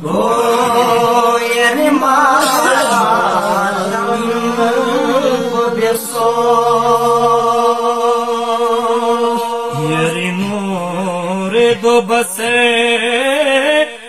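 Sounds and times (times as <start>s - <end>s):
men chanting devotional poem: 0.0s - 14.0s.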